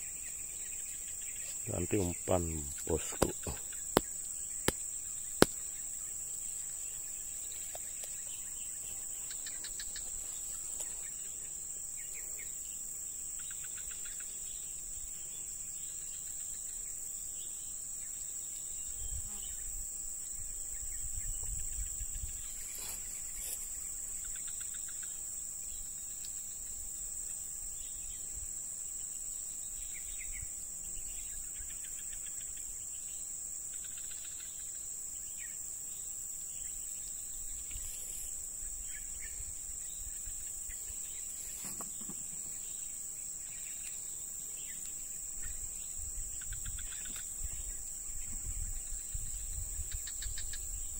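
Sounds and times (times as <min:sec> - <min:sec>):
high-pitched insect drone: 0:00.0 - 0:50.9.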